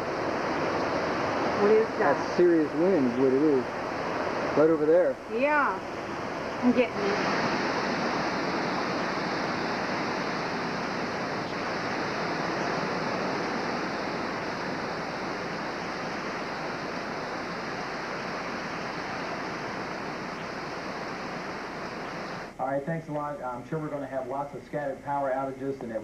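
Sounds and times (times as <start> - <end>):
strong wind rushing: 0.0 - 22.6.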